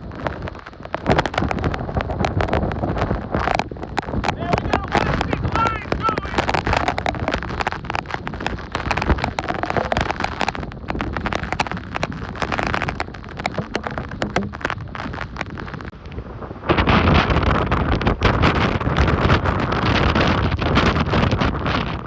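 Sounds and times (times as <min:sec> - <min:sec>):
hurricane wind and rain: 0:00.0 - 0:22.0
sharp cracks and pops: 0:00.0 - 0:22.0.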